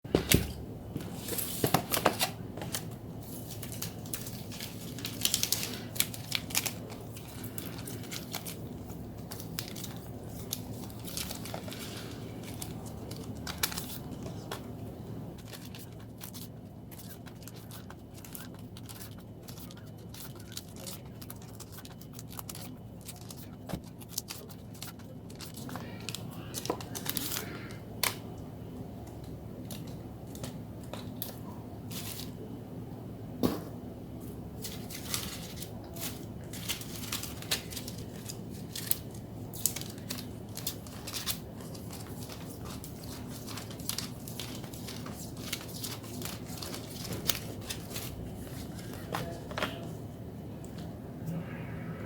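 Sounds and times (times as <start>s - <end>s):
steady low hum: 0.1s - 52.0s
plastic packaging crinkling: 1.2s - 28.2s, 34.6s - 49.9s.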